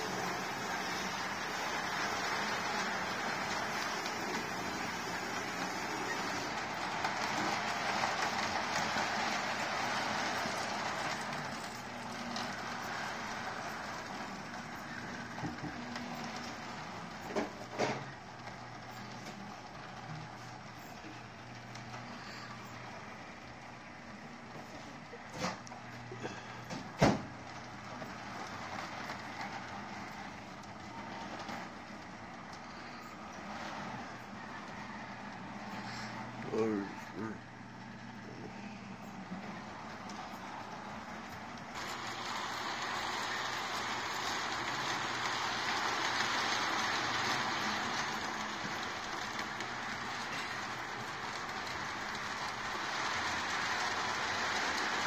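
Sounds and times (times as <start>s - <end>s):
model train rumbling on rails: 0.0s - 55.0s.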